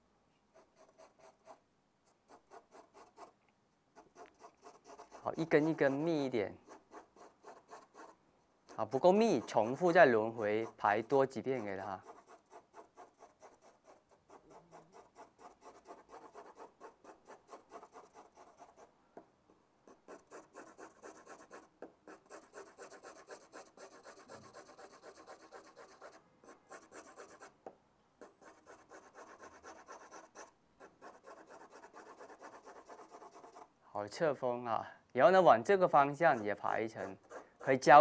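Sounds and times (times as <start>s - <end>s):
pencil scratching on paper: 0.5s - 3.4s, 4.0s - 18.9s, 19.9s - 27.6s, 28.2s - 33.7s, 36.0s - 38.0s.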